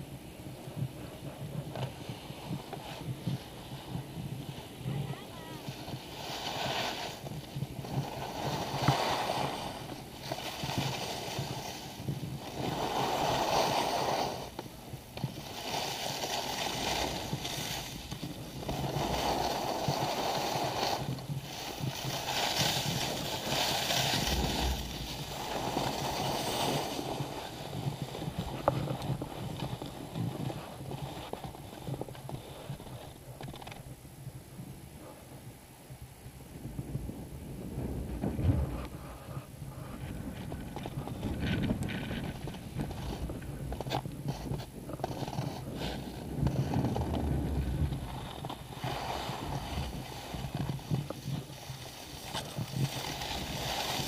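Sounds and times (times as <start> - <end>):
skis scraping over packed snow: 0.0 - 54.0.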